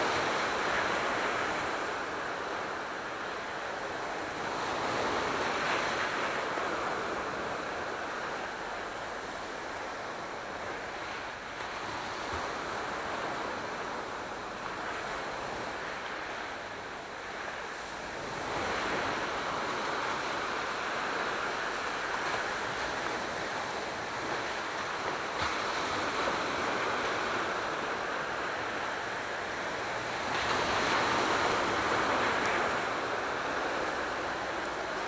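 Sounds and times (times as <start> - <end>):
sea waves washing ashore: 0.0 - 35.0.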